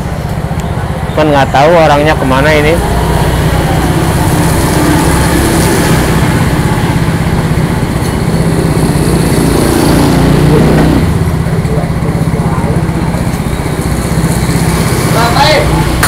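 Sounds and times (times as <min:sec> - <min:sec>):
scooter engine idling: 0:00.0 - 0:16.0.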